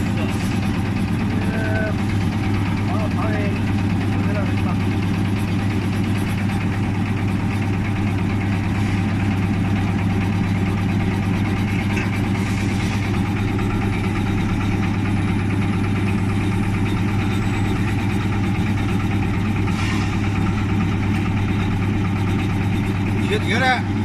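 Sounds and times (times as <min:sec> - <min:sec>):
bread slicer machine humming: 0:00.0 - 0:24.0.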